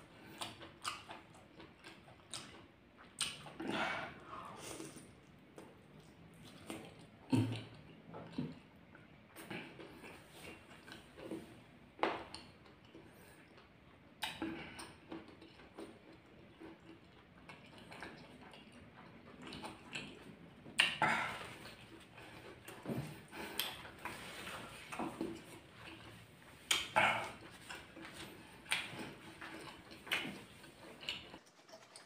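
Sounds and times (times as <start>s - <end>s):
man chewing wet mouth noises: 0.0s - 32.0s.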